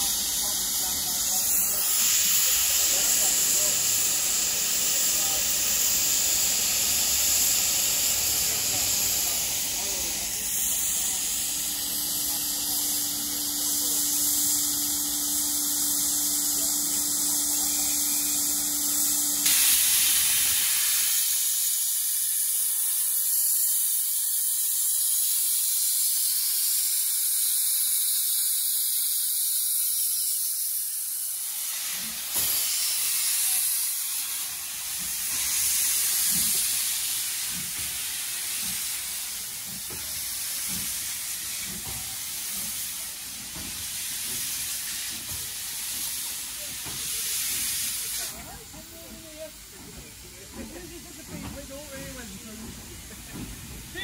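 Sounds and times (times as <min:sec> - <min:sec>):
slow locomotive exhaust beats: 0:00.0 - 0:25.1, 0:31.0 - 0:54.0
locomotive steam hiss: 0:00.0 - 0:54.0.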